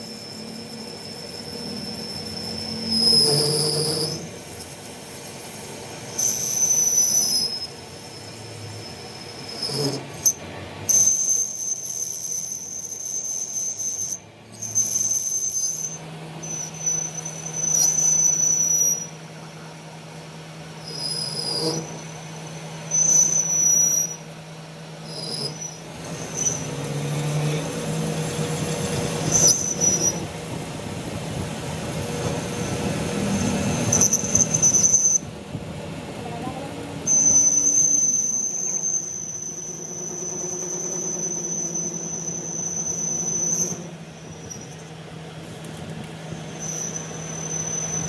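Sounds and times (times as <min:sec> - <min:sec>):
metal-on-metal squealing: 0:00.0 - 0:05.6, 0:06.2 - 0:19.2, 0:20.8 - 0:24.3, 0:25.0 - 0:35.3, 0:37.0 - 0:45.0, 0:46.3 - 0:48.0.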